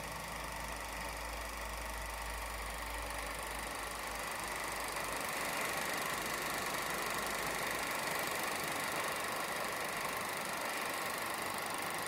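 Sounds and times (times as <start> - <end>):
film projector whirring: 0.0 - 12.0.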